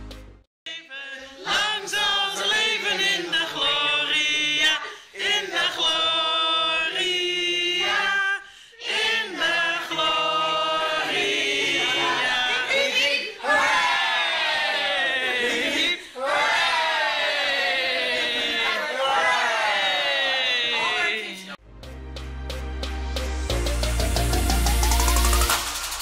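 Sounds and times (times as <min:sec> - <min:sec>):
group of people singing together: 0:00.7 - 0:21.6.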